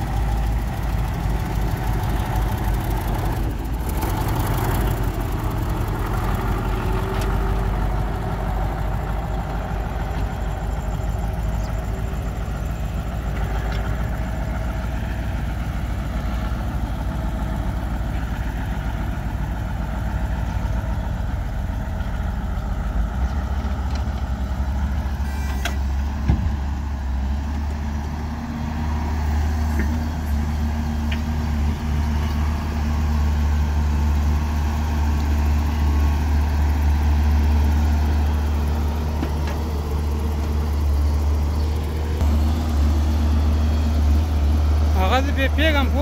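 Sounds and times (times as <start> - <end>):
heavy diesel engines running: 0.0 - 46.0.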